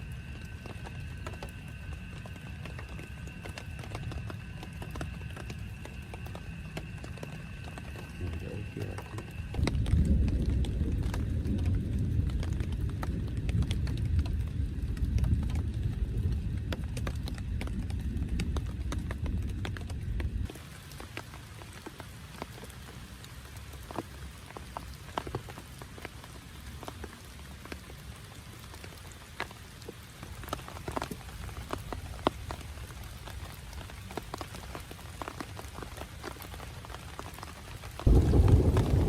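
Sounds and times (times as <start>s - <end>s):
low rumble of rain: 0.0s - 39.0s
raindrops ticking on a tent: 0.0s - 39.0s.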